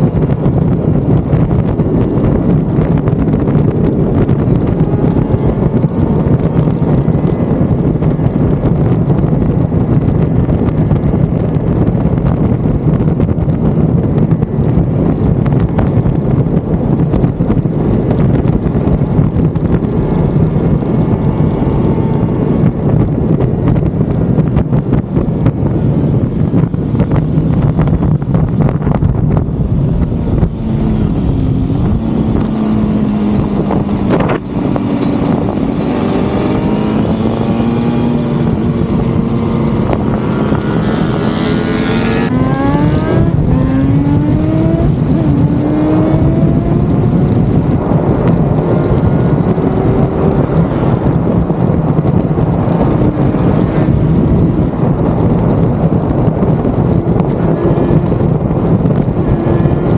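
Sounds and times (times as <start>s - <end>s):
motorcycle engine accelerating: 0.0s - 59.9s
wind rush on microphone: 0.0s - 59.9s.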